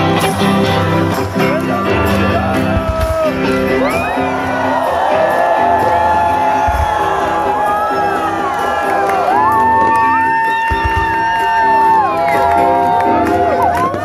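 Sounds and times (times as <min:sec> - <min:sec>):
band music at a concert: 0:00.0 - 0:14.0
crowd shouting and whooping: 0:00.0 - 0:14.0.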